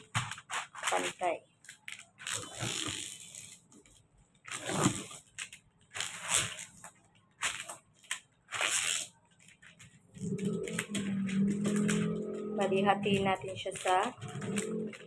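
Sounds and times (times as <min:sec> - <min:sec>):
foil paper crinkling: 0:00.0 - 0:12.0, 0:13.0 - 0:15.0.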